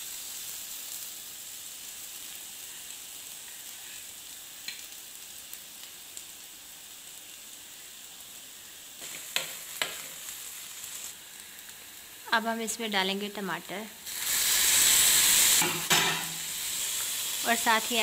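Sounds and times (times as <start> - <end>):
onion sizzling in a frying pan: 0.0 - 18.0.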